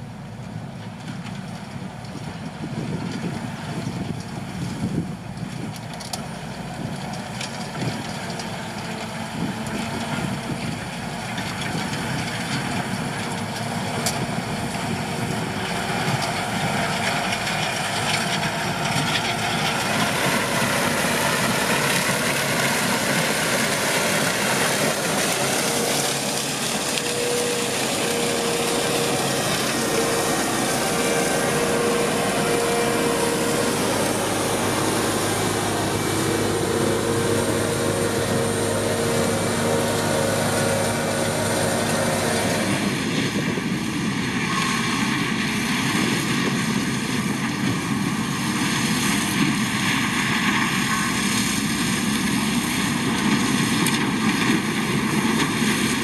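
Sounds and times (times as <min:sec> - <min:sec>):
harvester machinery rumbling: 0:00.0 - 0:56.0.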